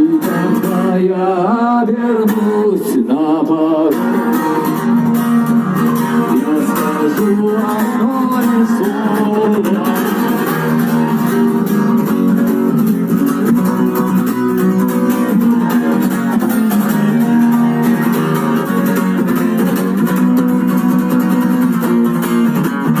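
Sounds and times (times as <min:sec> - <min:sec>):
guitar strummed in chords: 0:00.0 - 0:23.0.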